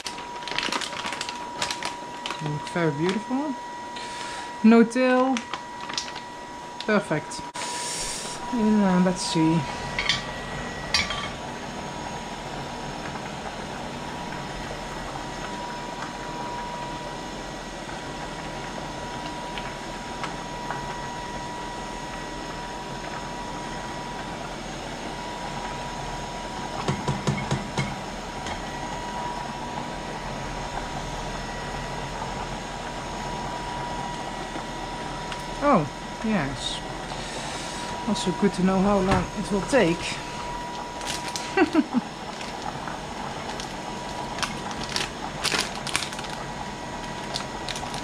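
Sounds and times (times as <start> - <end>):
pot of water boiling: 0.0 - 48.0.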